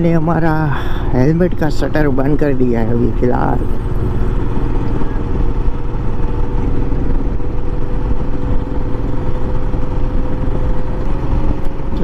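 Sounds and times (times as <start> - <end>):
motorcycle engine cruising: 0.0 - 12.0
riding noise rumble: 0.0 - 12.0.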